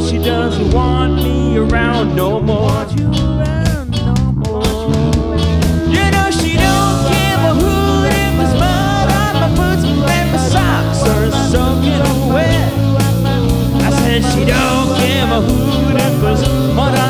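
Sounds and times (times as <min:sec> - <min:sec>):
bass line: 0:00.0 - 0:17.0
lead guitar with bending notes: 0:00.0 - 0:17.0
drum strokes: 0:02.7 - 0:17.0.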